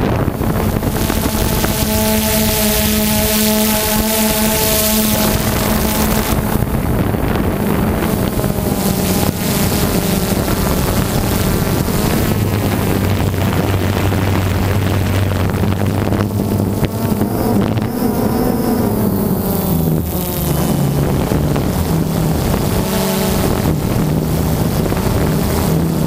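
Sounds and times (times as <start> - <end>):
drone propellers humming: 0.0 - 26.0
lower hum: 0.0 - 26.0
wind rushing over microphone: 0.0 - 26.0.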